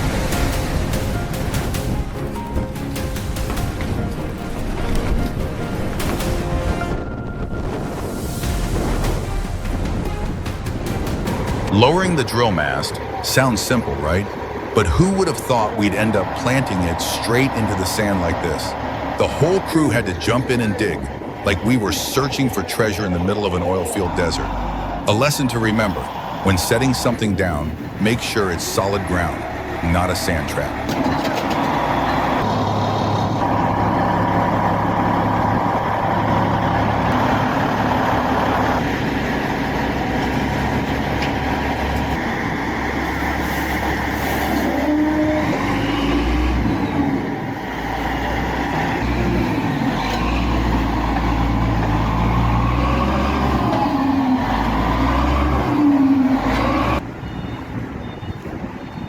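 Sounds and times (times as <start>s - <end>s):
diesel truck engines revving: 0.0s - 59.0s.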